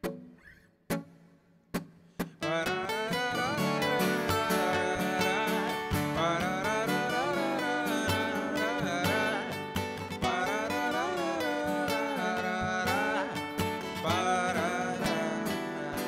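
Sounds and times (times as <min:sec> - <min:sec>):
acoustic guitars playing: 0:00.0 - 0:16.0
person singing wordless vocals: 0:02.4 - 0:16.0.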